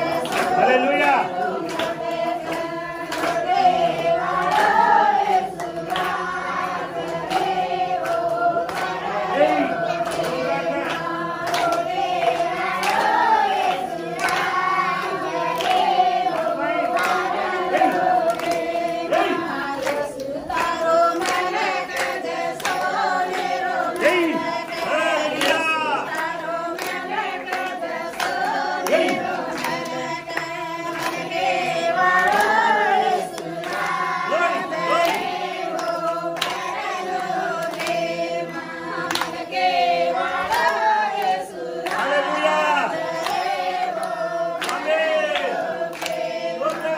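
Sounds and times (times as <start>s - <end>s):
group singing devotional song: 0.0s - 46.9s
hand claps: 0.0s - 46.9s.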